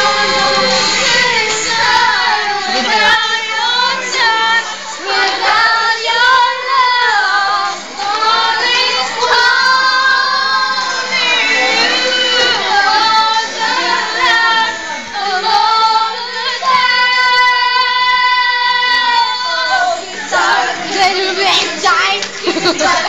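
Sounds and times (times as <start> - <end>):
girls singing together: 0.0 - 23.0.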